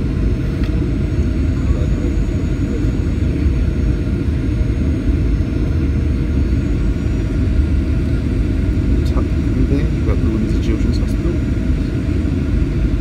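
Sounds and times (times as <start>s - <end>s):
low rumble of engines and airflow: 0.0s - 13.0s.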